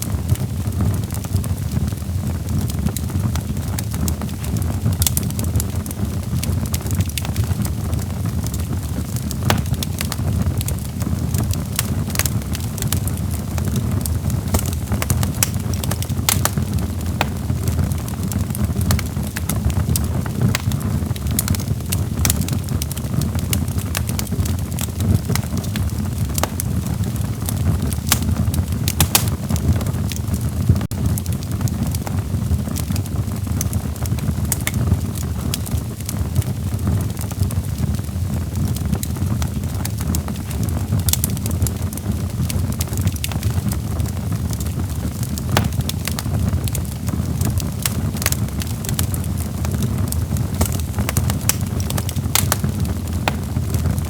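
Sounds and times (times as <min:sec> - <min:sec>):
burning wood crackling and popping: 0:00.0 - 0:54.0
flames rumbling: 0:00.0 - 0:54.0.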